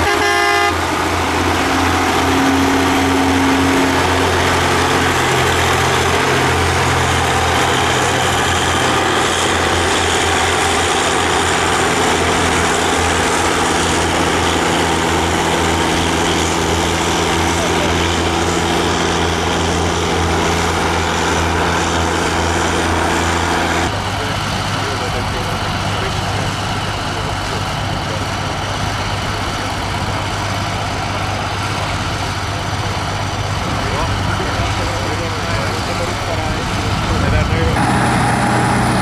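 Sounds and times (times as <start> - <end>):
tractor engine droning: 0.0 - 39.0.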